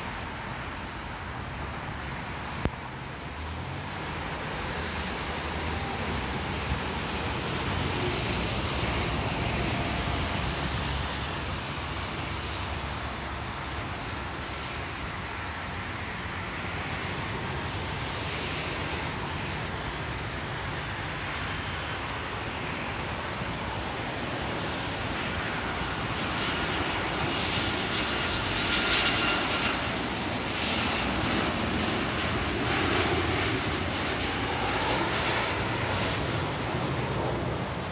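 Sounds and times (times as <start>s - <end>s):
high engine whine: 0.0s - 37.9s
jet engine rumble: 0.0s - 37.9s.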